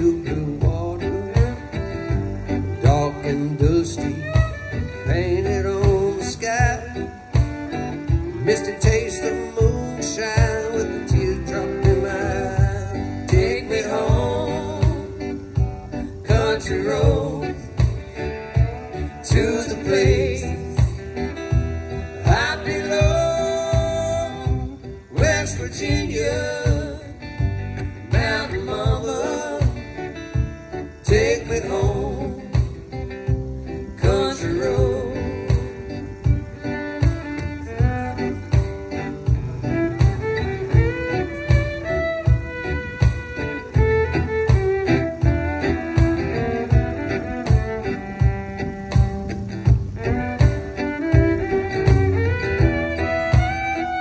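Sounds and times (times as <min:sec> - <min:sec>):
country band playing: 0:00.0 - 0:54.0
fiddle melody: 0:00.0 - 0:54.0
low drum beat: 0:00.0 - 0:54.0
resonator guitar: 0:00.0 - 0:54.0
strummed acoustic guitar: 0:00.0 - 0:54.0.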